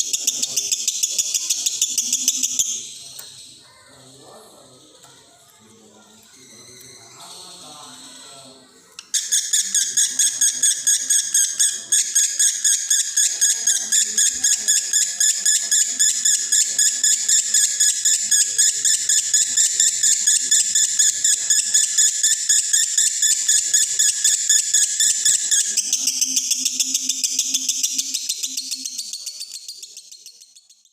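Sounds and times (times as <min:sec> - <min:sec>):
lovebird chattering song: 0:00.0 - 0:04.2, 0:09.0 - 0:30.9.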